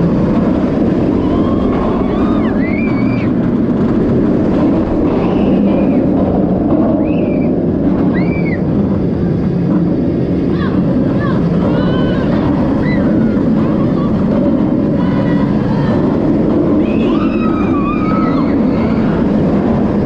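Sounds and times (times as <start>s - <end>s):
roller coaster rumbling on track: 0.0s - 20.0s
wind rushing over camera: 0.0s - 20.0s.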